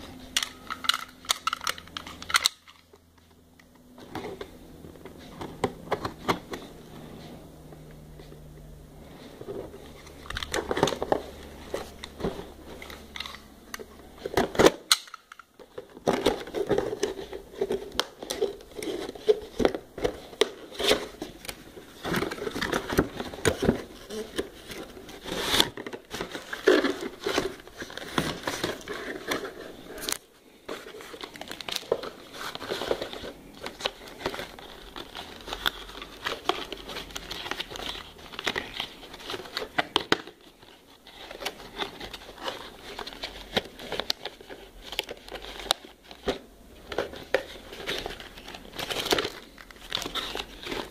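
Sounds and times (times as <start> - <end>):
cardboard and plastic packaging rustling: 0.0 - 7.4, 8.2 - 50.9.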